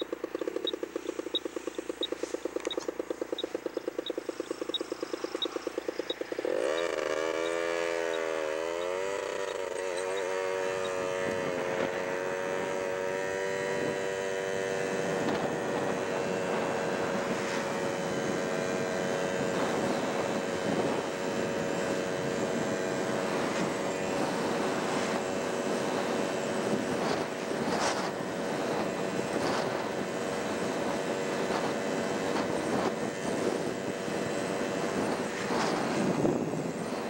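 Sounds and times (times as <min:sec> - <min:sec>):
road noise: 0:00.0 - 0:37.0
vehicle engine accelerating: 0:00.0 - 0:37.0.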